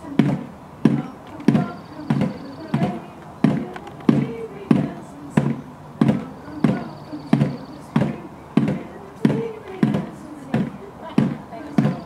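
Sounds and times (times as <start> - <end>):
drum beating steadily: 0.0 - 12.0
group singing: 0.0 - 12.0.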